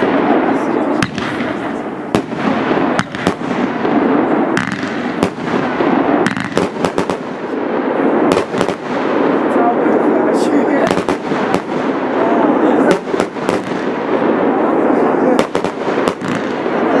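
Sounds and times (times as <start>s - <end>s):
dense rushing noise: 0.0s - 17.0s
fireworks bangs: 0.0s - 17.0s.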